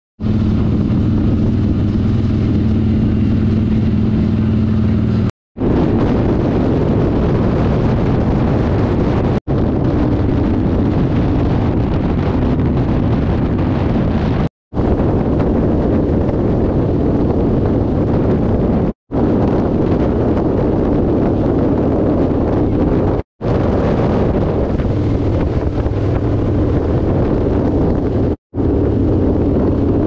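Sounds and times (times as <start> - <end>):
motorcycle engine drone: 0.2 - 30.0
wind rush: 0.2 - 30.0.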